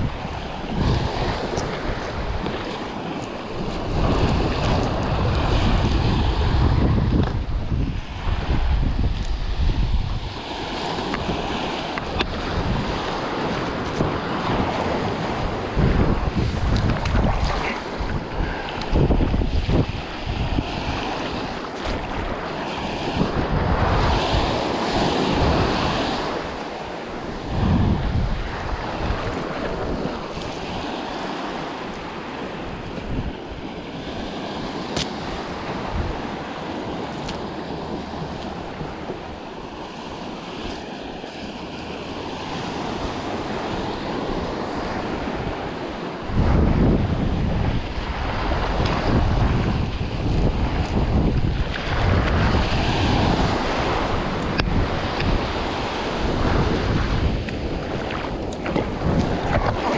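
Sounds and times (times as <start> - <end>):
small surf washing on sand: 0.0 - 59.9
wind buffeting microphone: 0.0 - 59.9.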